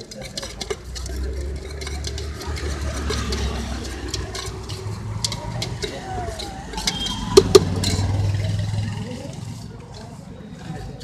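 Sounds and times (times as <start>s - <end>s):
low traffic rumble: 0.0s - 11.0s
spoon scraping steel tumbler: 0.0s - 11.0s.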